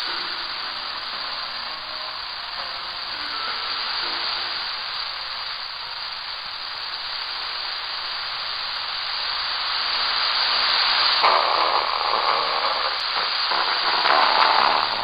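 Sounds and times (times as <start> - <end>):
faint sound through static: 0.0 - 15.0
radio static hiss: 0.0 - 15.0.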